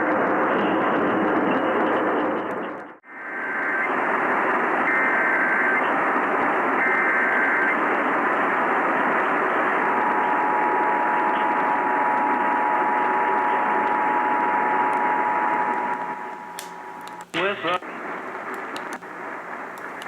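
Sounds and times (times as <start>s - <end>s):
radio static hiss: 3.2s - 20.0s.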